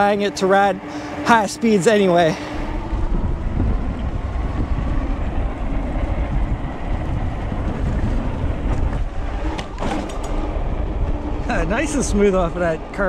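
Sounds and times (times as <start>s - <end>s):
bike tyres rumbling on path: 2.0s - 13.0s
wind on microphone: 2.4s - 13.0s.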